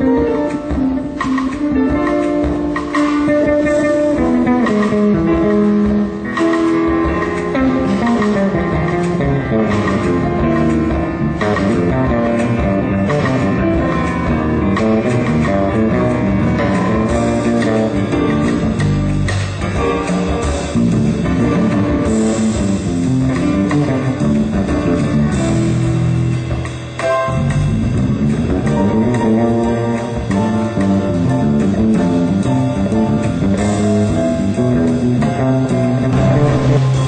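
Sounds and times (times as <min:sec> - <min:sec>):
jazz piano trio: 0:00.0 - 0:37.0.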